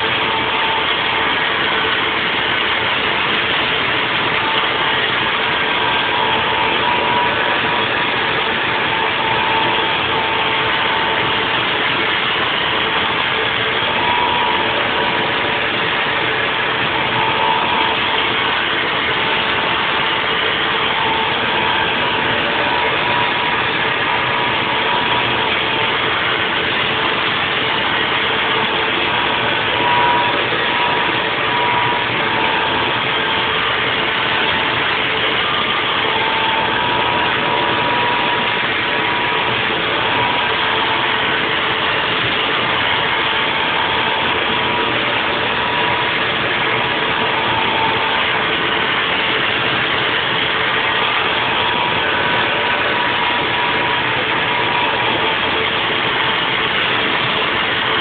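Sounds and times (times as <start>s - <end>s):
milling machine whine: 0.0s - 58.0s.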